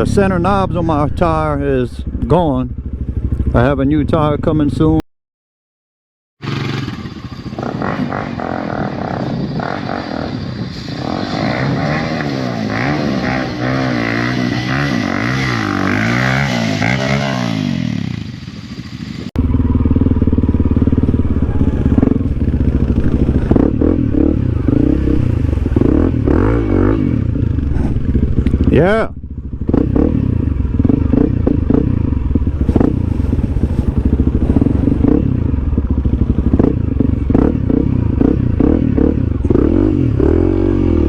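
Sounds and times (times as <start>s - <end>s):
motorcycle engine revving: 0.0s - 5.0s, 6.4s - 41.0s.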